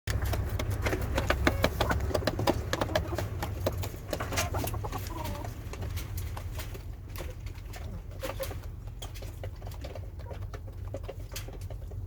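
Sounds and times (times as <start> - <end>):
hens clucking: 0.1 - 12.0.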